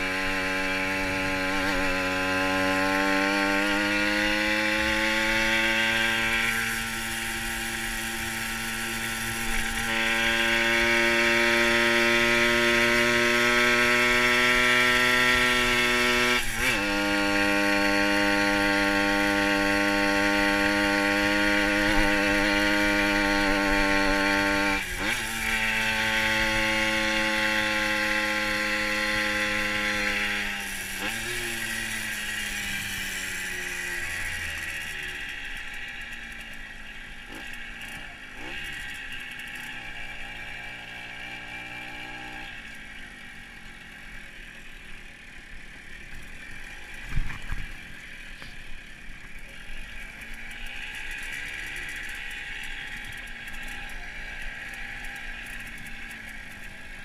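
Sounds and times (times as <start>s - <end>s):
moped two-stroke engine buzzing: 0.0s - 57.0s.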